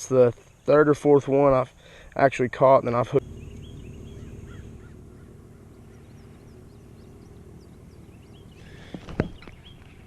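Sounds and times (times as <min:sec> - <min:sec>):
steady low background noise: 0:01.5 - 0:10.0
small birds chirping: 0:01.6 - 0:10.0.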